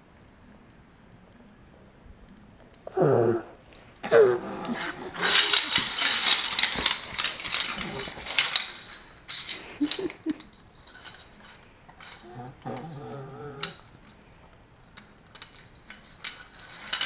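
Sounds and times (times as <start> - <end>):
plastic toys rattling and clicking: 2.7 - 17.0.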